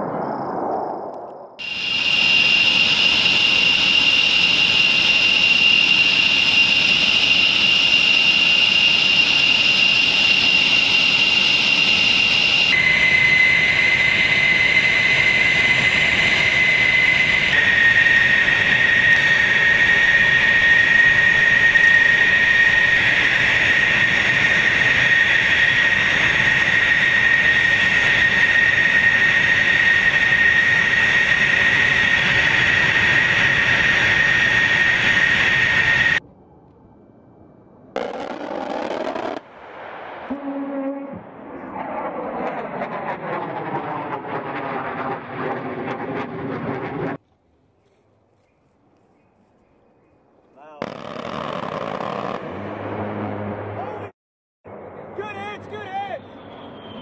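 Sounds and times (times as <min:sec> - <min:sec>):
high engine whine: 0:00.0 - 0:47.2, 0:50.8 - 0:54.1, 0:54.7 - 0:57.0
jet engines running: 0:00.0 - 0:47.2, 0:50.8 - 0:54.1, 0:54.7 - 0:57.0.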